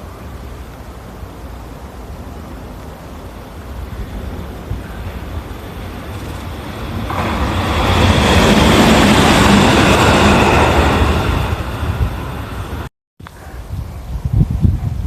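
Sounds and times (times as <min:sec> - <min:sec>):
train passing by: 0:00.0 - 0:12.9.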